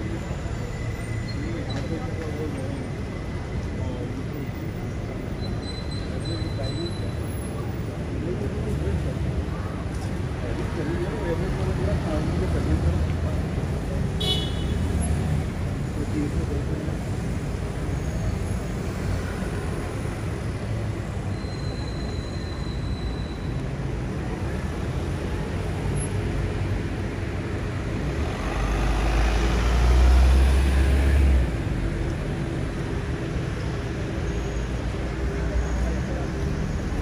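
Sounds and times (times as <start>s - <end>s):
city street traffic: 0.0s - 37.0s.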